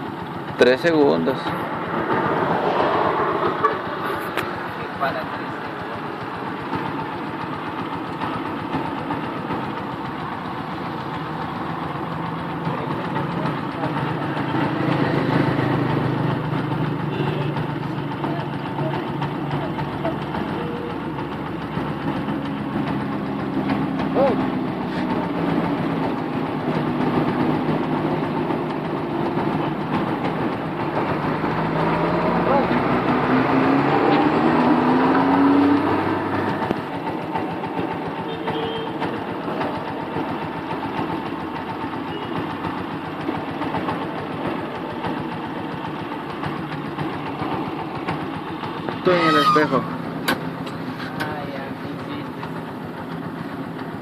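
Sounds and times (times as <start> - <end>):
vehicle engine idling hum: 0.0 - 54.0.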